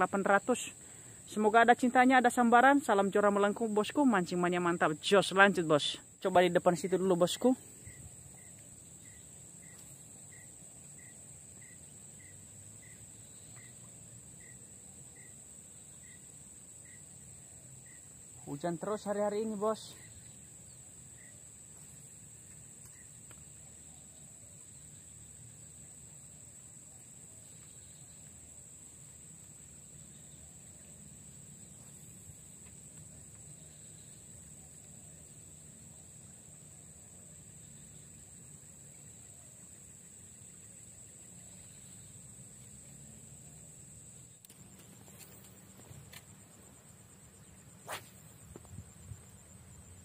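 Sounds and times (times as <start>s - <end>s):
cricket trilling: 0.0s - 50.0s
short insect chirp: 0.0s - 50.0s.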